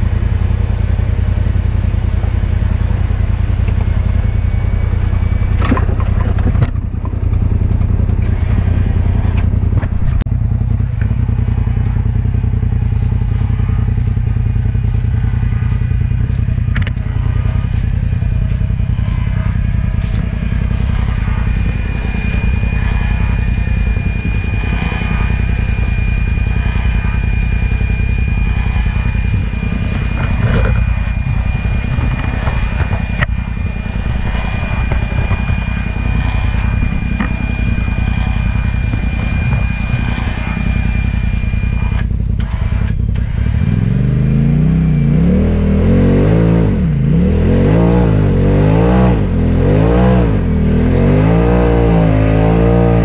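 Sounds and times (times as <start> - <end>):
engine running steadily: 0.0 - 53.0
thin high whine: 0.0 - 53.0.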